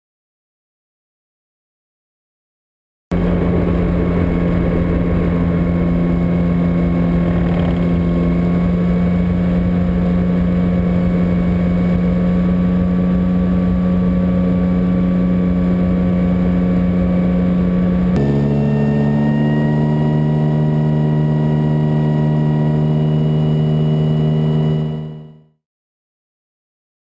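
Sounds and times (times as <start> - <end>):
electric airplane motor drone: 3.1 - 25.5.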